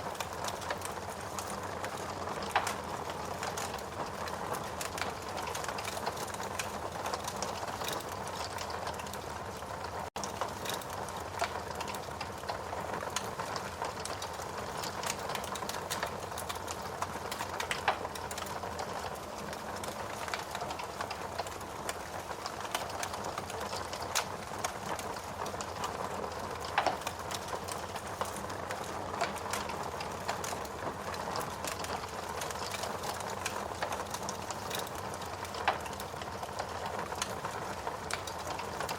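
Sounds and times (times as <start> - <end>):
logs crackling in fireplace: 0.0 - 38.9.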